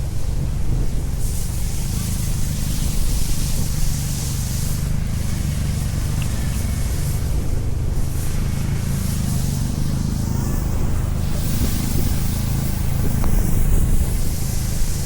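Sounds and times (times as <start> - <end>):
street noise hiss: 0.0 - 15.0
wind buffeting microphone: 0.0 - 15.0.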